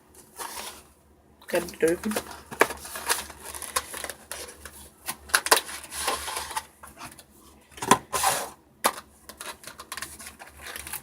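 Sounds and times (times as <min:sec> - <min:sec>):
packaging clicks and rustles: 0:01.5 - 0:11.0.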